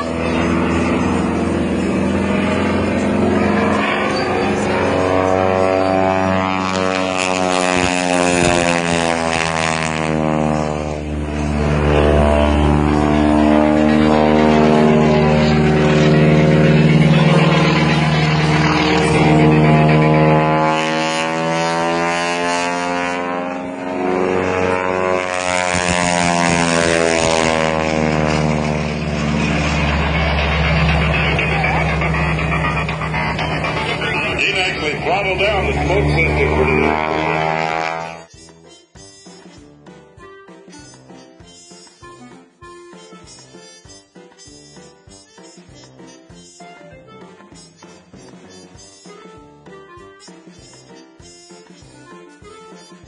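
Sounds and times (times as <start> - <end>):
propeller airplane engine: 0.0 - 53.0.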